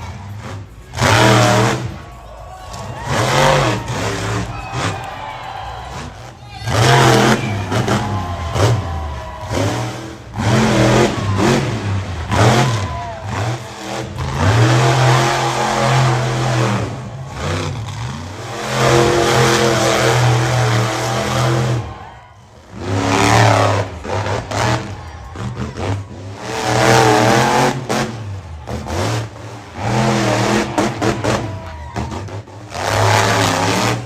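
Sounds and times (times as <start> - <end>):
monster truck engine revving: 0.0 - 34.0.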